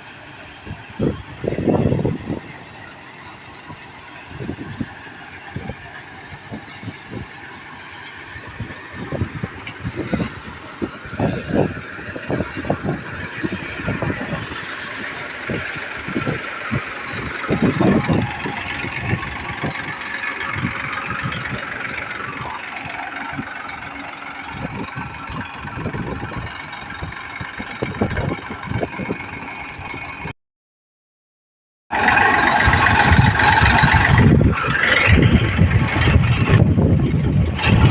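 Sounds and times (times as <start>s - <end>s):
threshing machine engine running: 0.0s - 30.3s, 31.9s - 37.9s.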